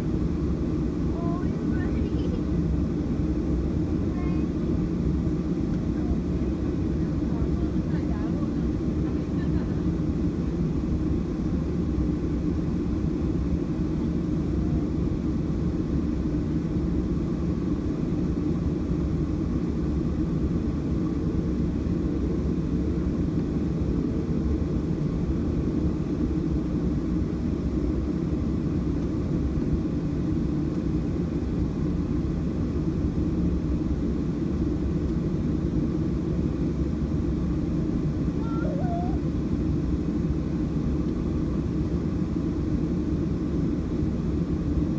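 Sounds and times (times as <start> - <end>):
airplane cabin hum and rumble: 0.0 - 44.9.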